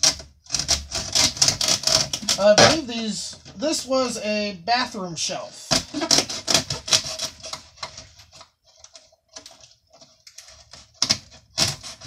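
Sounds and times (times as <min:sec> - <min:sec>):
woven panel cut and torn: 0:00.0 - 0:03.4, 0:05.7 - 0:12.0.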